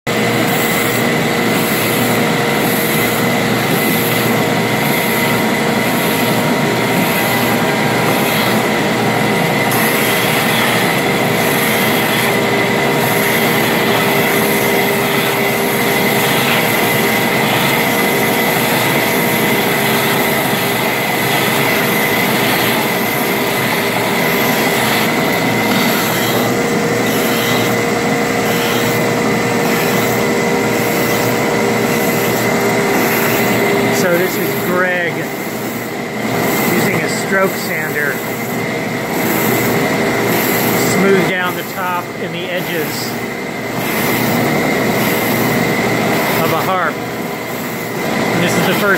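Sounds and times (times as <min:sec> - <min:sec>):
belt sander sanding wood: 0:00.1 - 0:48.9
steady high whine: 0:00.1 - 0:48.9.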